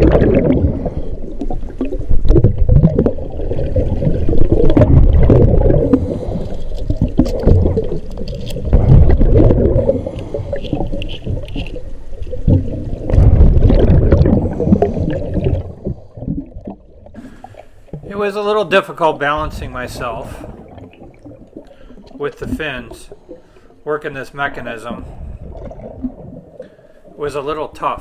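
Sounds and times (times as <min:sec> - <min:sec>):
underwater exhaled bubbles: 0:00.0 - 0:28.0.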